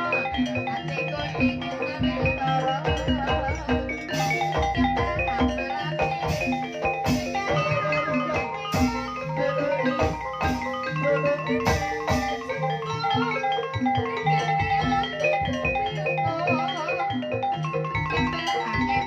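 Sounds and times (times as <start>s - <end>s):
drum strokes: 0.0s - 16.4s
mallet-struck keyed instruments: 0.0s - 19.0s
wavering melody line: 0.0s - 19.0s.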